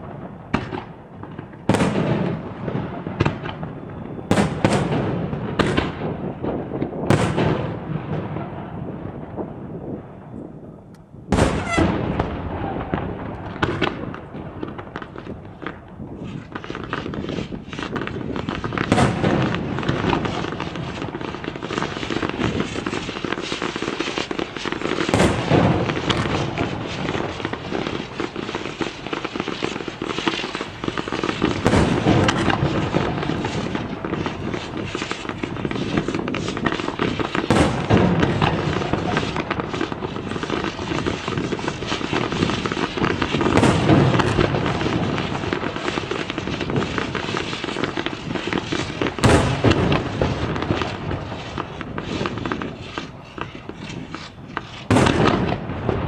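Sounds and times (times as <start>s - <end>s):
fireworks booms: 0.0s - 56.0s
fireworks crackling: 0.0s - 56.0s.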